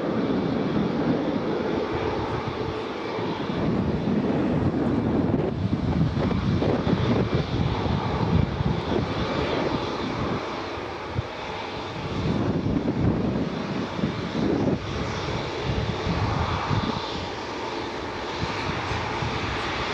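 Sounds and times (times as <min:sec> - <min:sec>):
jet engines at takeoff: 0:00.0 - 0:19.9.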